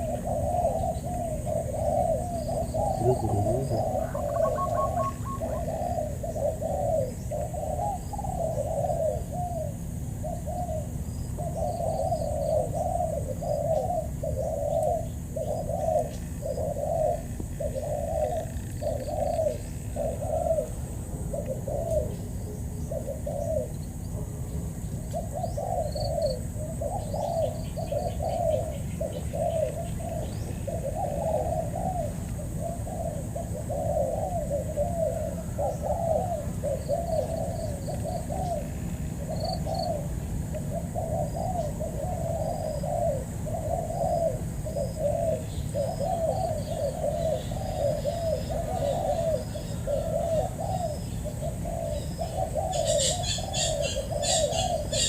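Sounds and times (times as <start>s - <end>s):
doves cooing rapidly: 0.0s - 55.0s.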